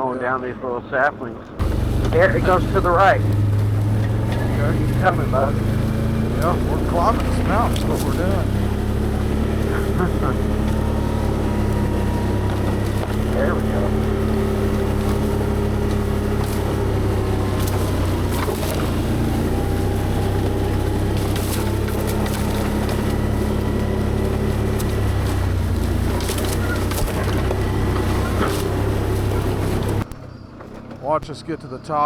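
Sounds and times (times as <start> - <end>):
brush snapping and knocking: 1.6 - 30.2
atv engine under load: 1.6 - 32.0.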